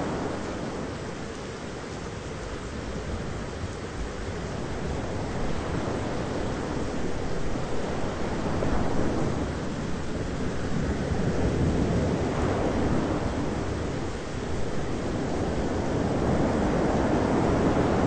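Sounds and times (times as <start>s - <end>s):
rushing roar of rain: 0.0s - 18.0s.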